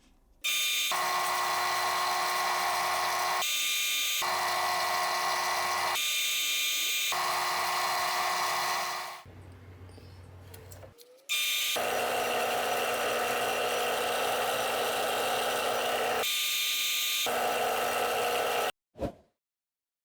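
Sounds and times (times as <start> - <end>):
power tool running: 0.5 - 9.3, 11.3 - 18.7.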